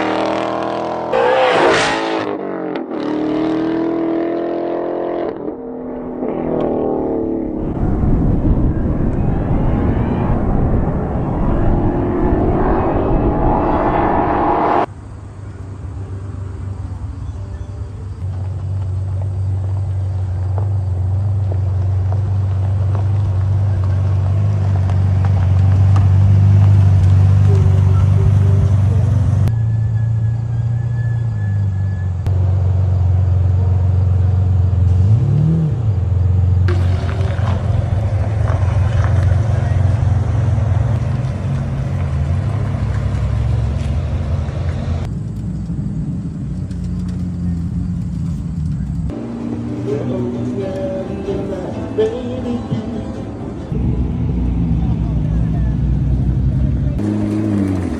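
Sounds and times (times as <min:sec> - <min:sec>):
car engine and exhaust droning: 0:00.0 - 0:57.9.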